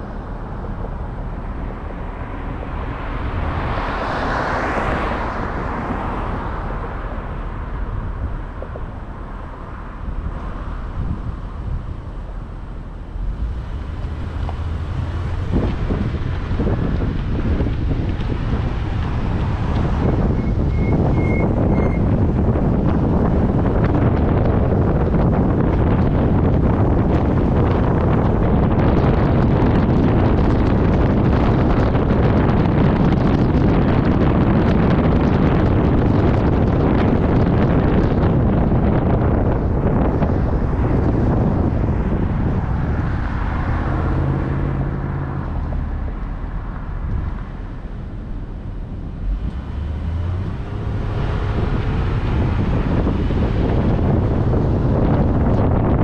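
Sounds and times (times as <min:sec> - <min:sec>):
vehicle road and engine noise: 0:00.0 - 0:56.0
wind buffeting microphone: 0:00.0 - 0:56.0.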